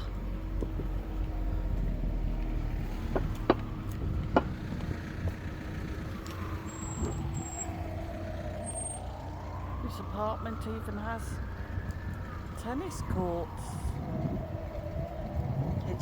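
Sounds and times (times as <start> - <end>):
car passing: 0.0 - 16.0
road traffic: 0.0 - 16.0
wind rumble on microphone: 0.0 - 16.0.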